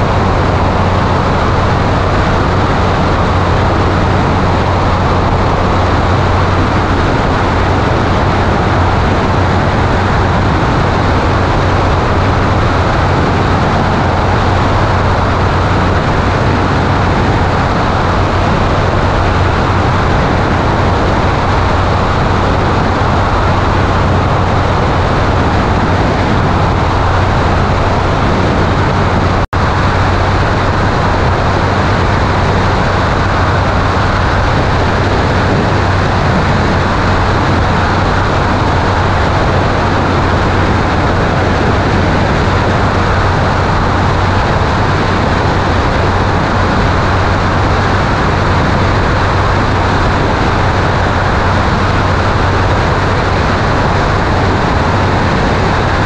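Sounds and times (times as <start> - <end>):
aircraft engine and propeller drone: 0.0 - 56.0
wind rushing over microphone: 0.0 - 56.0.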